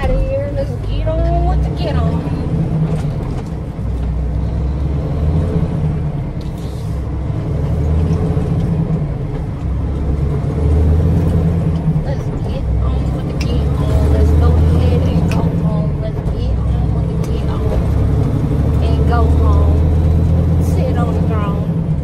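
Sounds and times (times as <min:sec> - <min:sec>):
engine and road drone in cabin: 0:00.0 - 0:22.0.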